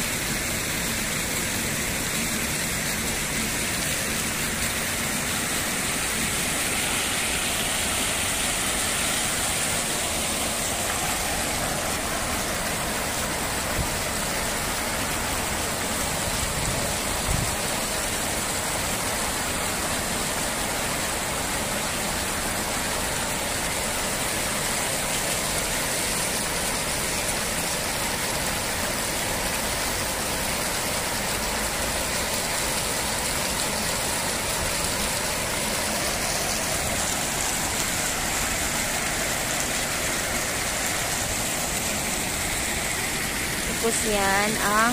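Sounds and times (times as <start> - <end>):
fountains splashing into pool: 0.0 - 44.9.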